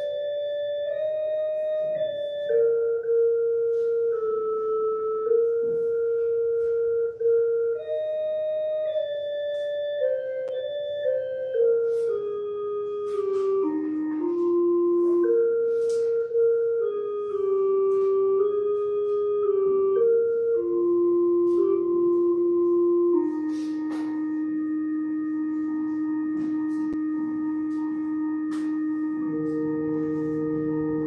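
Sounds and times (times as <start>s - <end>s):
church organ playing: 0.0s - 31.0s.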